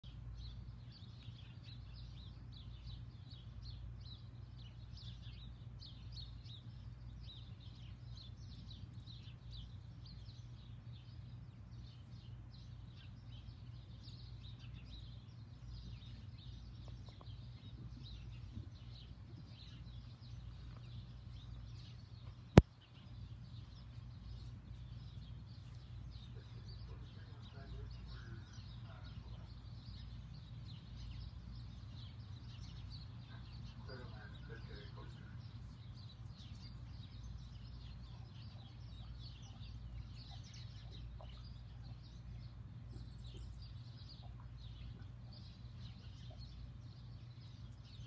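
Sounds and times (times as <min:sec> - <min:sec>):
small birds chirping: 0:00.0 - 0:48.0
steady low hum: 0:00.0 - 0:48.0.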